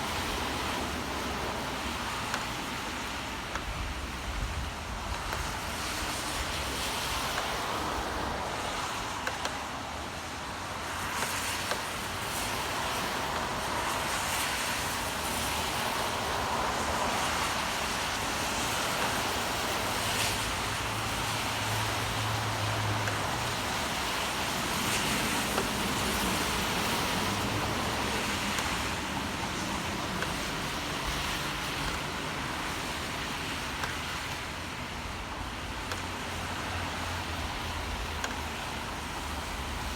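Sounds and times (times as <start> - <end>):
steady rain: 0.0 - 39.9
tyres on wet road: 0.0 - 39.9
vehicles passing: 0.0 - 39.9.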